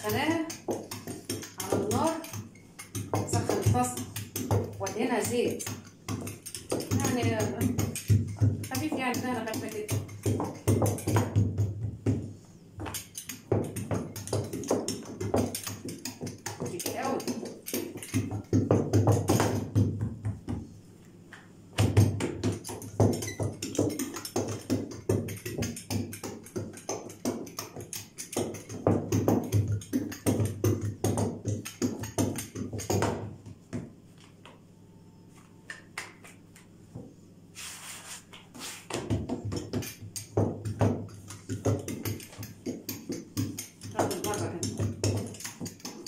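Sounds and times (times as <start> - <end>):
dough roller clicking and knocking: 0.0 - 20.7, 21.7 - 34.0, 38.8 - 46.0.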